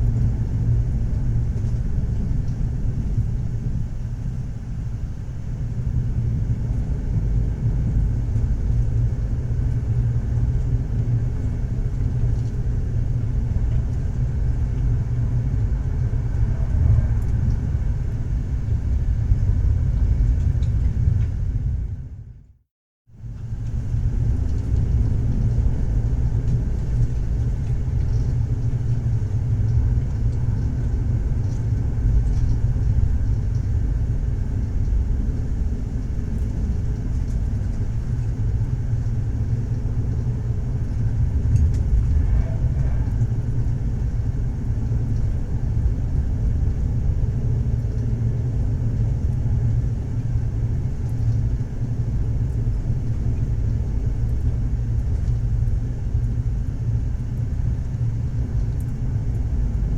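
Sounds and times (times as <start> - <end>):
train rumbling on track: 0.0 - 22.4, 23.2 - 59.9.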